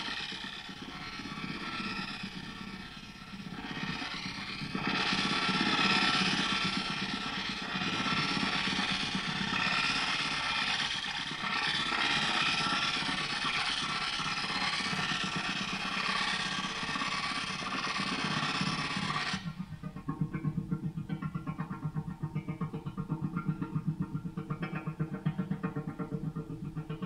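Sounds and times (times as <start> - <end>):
granular delay effects wash: 0.0 - 27.0
rapidly pulsing loop: 0.0 - 27.0.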